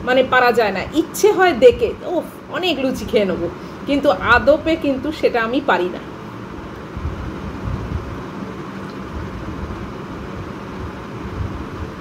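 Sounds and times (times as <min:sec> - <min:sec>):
ceiling fan rumbling: 0:00.0 - 0:12.0
faint steady hum: 0:00.0 - 0:12.0.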